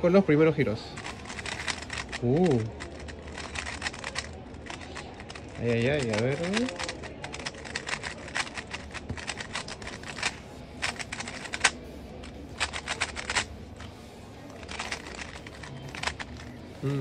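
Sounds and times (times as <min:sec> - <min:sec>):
puzzle cube clacking: 0:00.8 - 0:17.0.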